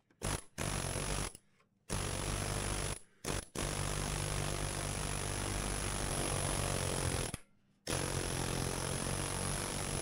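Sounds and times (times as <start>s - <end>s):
pneumatic air chisel hammering: 0.2s - 10.0s.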